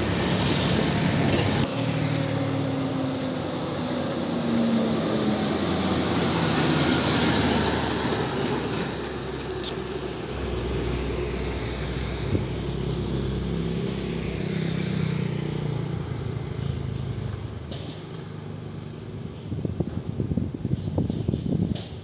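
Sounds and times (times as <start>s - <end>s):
diesel truck driving away: 0.0s - 20.7s.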